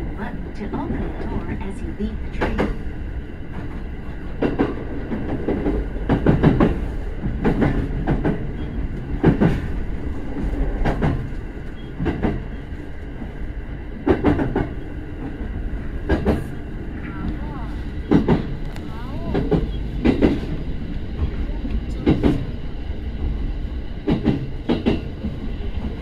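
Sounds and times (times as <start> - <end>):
electric train rumble: 0.0 - 26.0.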